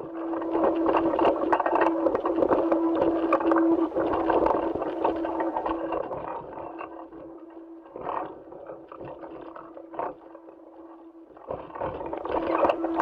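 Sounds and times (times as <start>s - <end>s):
steady humming tone: 0.0s - 13.0s.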